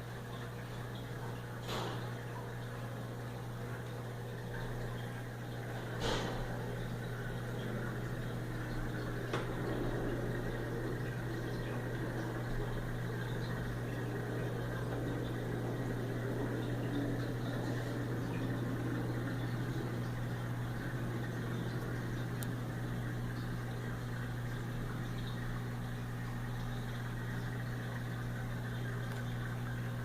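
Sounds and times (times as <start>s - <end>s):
aquarium equipment hum: 0.0s - 30.0s
water bubbling and trickling: 0.0s - 30.0s.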